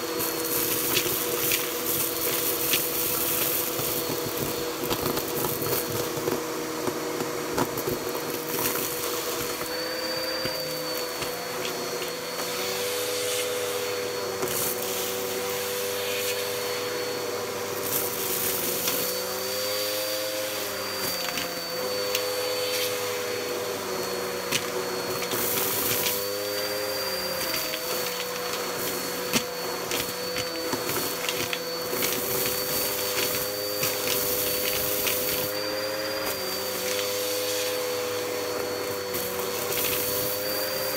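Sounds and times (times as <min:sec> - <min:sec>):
vacuum cleaner motor hum: 0:00.0 - 0:40.9
debris rattling up vacuum hose: 0:00.1 - 0:40.9.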